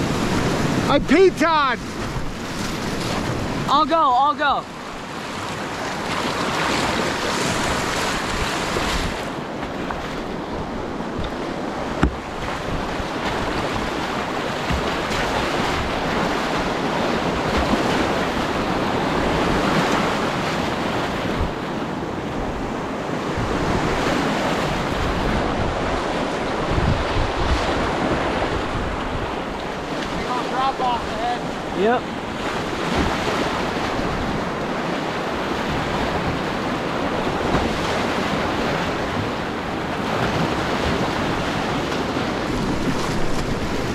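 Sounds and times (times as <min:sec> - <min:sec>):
water buffeting microphone: 0:00.0 - 0:43.9
whitewater rushing: 0:00.0 - 0:43.9.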